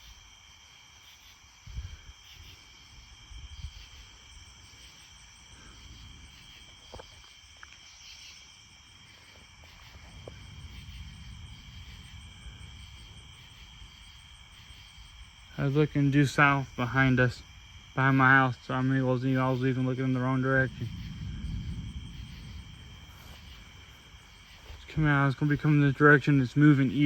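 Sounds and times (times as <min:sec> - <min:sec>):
night insects chirping: 0:00.0 - 0:27.0
wind rumble on microphone: 0:01.6 - 0:27.0.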